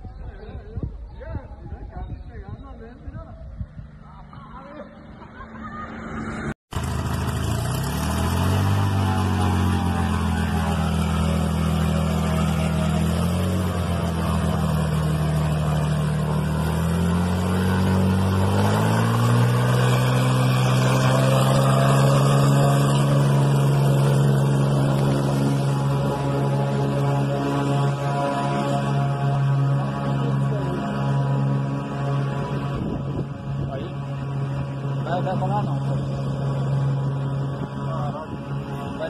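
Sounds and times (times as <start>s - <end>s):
propeller plane engine running: 2.4s - 39.0s.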